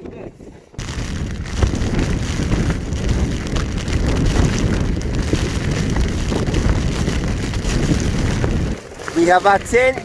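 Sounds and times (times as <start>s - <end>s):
strong wind on microphone: 0.0s - 10.0s
heavy rain: 0.8s - 9.7s.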